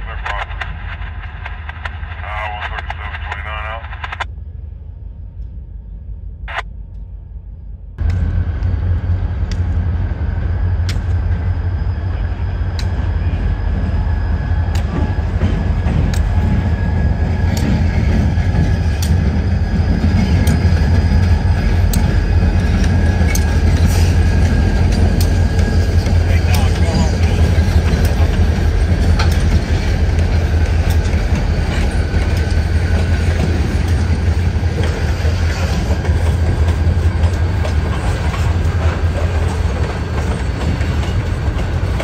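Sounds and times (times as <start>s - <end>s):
diesel locomotive engine rumble: 0.0s - 42.0s.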